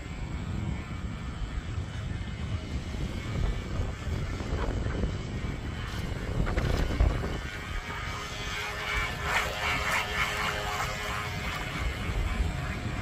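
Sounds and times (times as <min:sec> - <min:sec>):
small boat motor whine: 0:00.0 - 0:13.0
wind rumbling on microphone: 0:00.0 - 0:13.0
choppy lapping water: 0:01.6 - 0:13.0.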